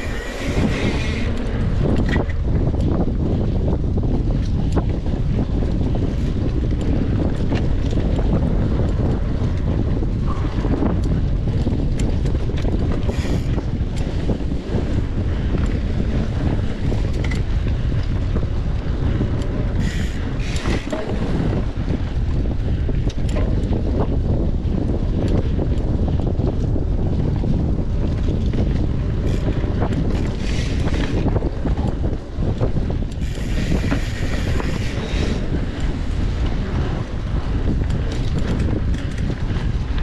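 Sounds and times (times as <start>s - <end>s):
bike rattling over ground: 0.0s - 40.0s
wind buffeting microphone: 0.0s - 40.0s.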